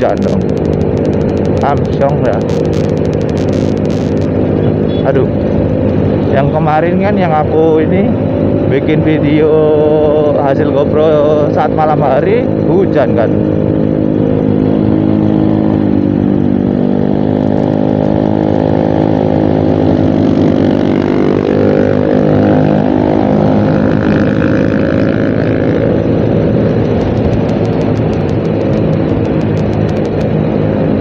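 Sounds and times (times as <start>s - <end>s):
motorcycle engine running: 0.0s - 31.0s
motorcycle passing close: 0.0s - 31.0s
wind and road noise: 0.0s - 31.0s.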